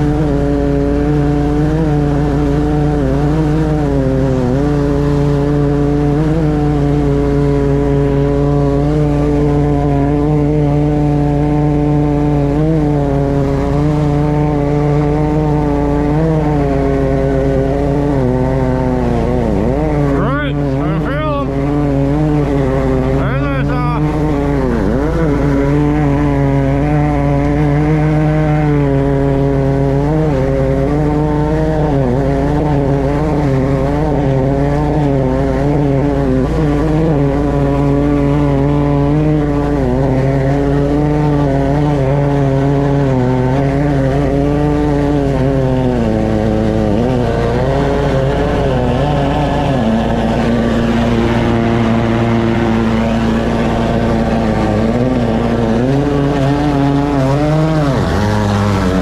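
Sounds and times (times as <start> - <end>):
drain jetter engine running: 0.0 - 59.0.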